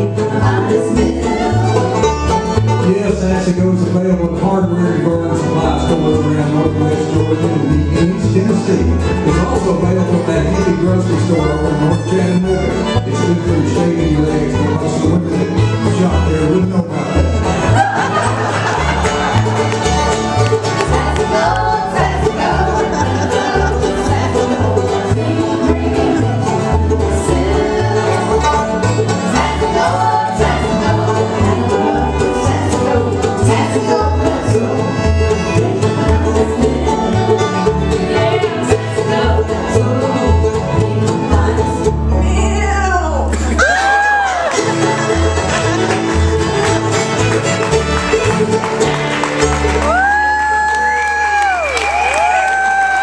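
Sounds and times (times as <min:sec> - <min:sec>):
fiddle: 0:00.0 - 0:42.8, 0:44.0 - 0:51.6
acoustic guitar: 0:00.0 - 0:53.0
electric bass guitar: 0:00.0 - 0:53.0.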